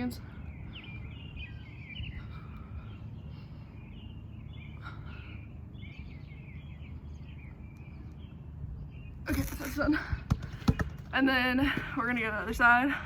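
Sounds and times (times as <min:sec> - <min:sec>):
low background hum: 0:00.0 - 0:13.0
small birds chirping: 0:00.0 - 0:13.0.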